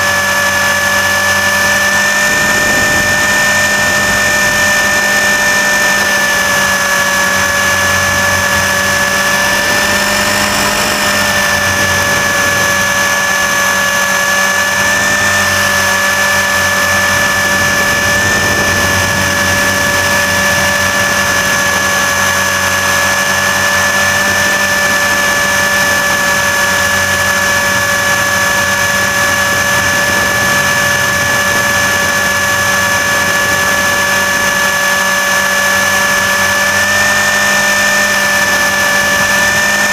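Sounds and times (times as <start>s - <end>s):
rc helicopter rotor whine: 0.0s - 39.9s.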